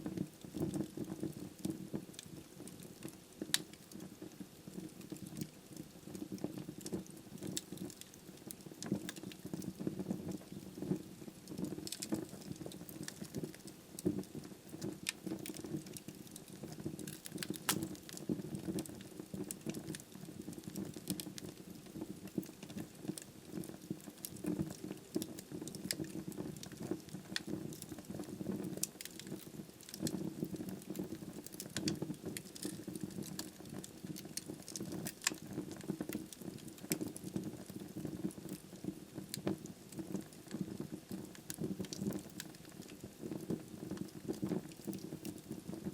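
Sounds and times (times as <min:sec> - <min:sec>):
logs crackling and popping: 0:00.0 - 0:45.9
low rumble of flames: 0:00.0 - 0:45.9.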